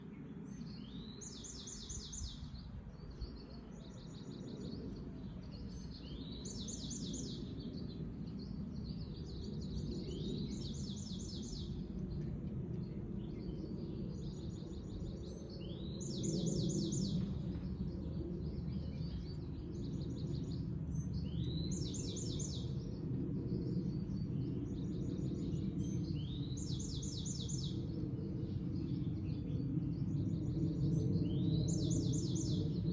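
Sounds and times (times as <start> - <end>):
songbird singing trills: 0.0 - 32.9.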